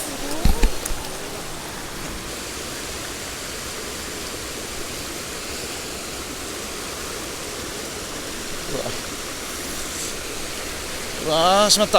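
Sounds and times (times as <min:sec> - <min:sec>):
stream water running: 0:00.0 - 0:11.9.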